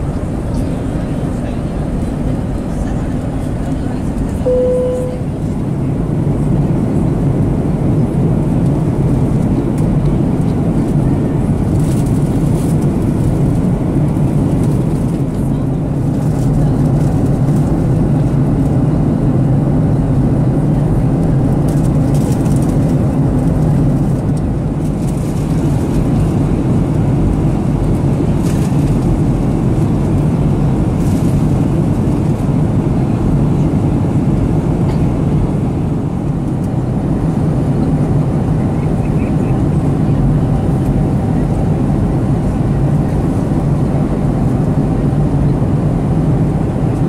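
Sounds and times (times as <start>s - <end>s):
airplane cabin drone: 0.0s - 47.0s.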